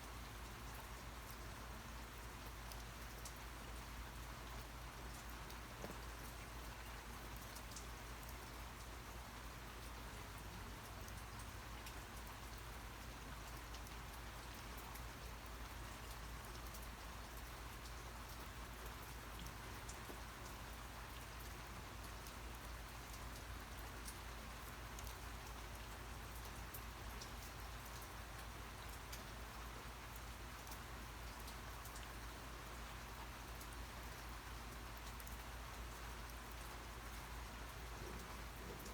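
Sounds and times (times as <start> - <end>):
rain hiss: 0.0 - 38.9
raindrops ticking on a surface: 0.0 - 38.9.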